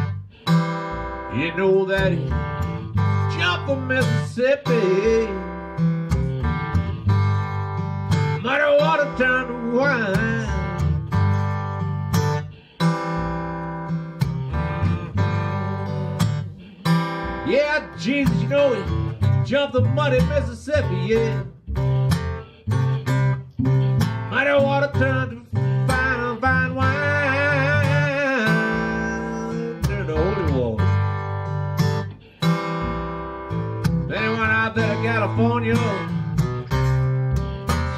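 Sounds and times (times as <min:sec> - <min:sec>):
acoustic guitar blues solo: 0:00.0 - 0:37.9.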